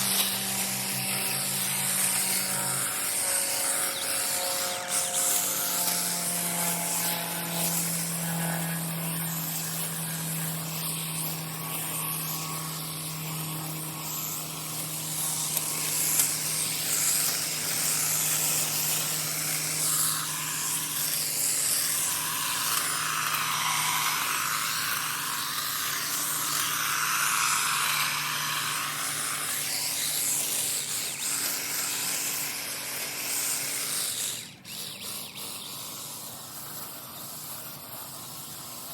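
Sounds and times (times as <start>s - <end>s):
electric hedge trimmer motor hum: 0.0s - 38.9s
grass being cut: 0.0s - 38.9s.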